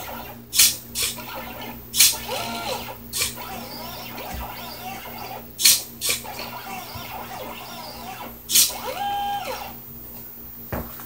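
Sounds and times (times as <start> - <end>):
stepper motors whining: 0.0 - 9.9.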